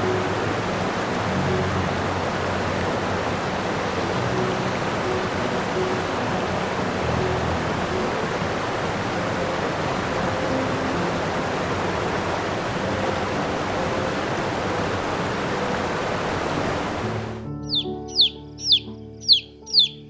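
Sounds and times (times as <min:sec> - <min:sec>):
rushing water noise: 0:00.0 - 0:19.9
faint background music: 0:00.0 - 0:20.0.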